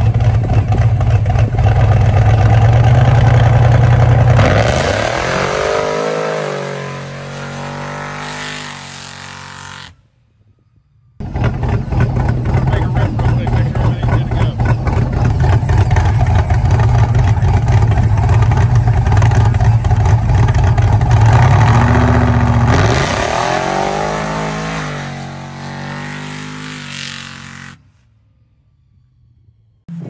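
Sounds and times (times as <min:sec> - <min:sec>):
truck engine revving: 0:00.0 - 0:10.0, 0:11.2 - 0:27.8.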